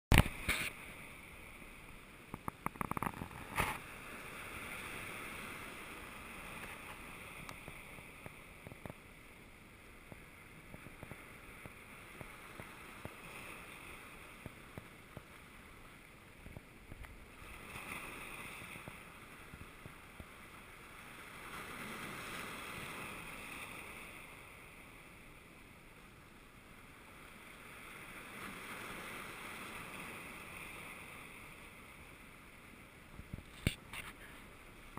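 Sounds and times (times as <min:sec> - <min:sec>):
waves breaking over rocks: 0:00.1 - 0:34.9.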